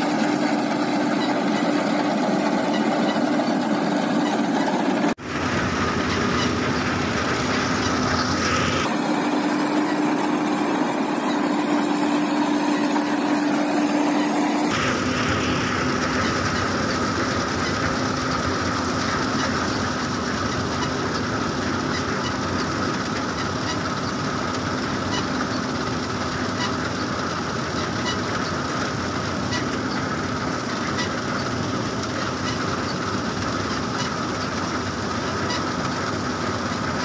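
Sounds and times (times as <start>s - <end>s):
combine harvester drone: 0.0s - 37.0s
high mechanical whine: 0.0s - 37.0s
machinery rhythmic clatter: 0.0s - 37.0s.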